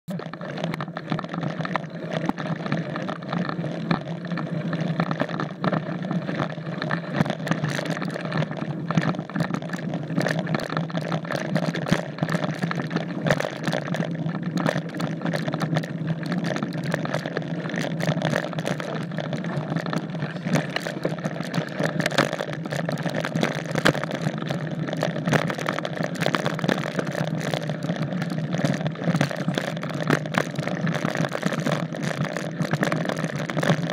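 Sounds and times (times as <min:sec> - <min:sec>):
bike rattling over stones: 0:00.3 - 0:33.9.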